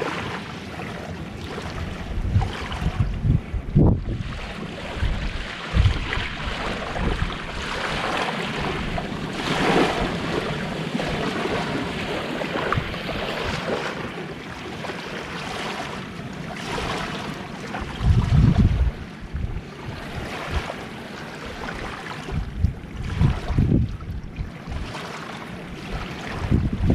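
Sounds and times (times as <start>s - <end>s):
sea waves washing onto shore: 0.0s - 26.9s
wind buffeting microphone: 1.4s - 14.5s, 17.6s - 26.9s.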